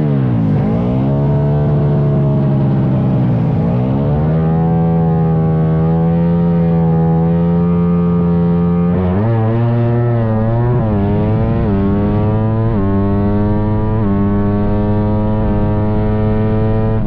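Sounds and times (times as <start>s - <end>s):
motorcycle engine revving and accelerating: 0.0s - 17.0s.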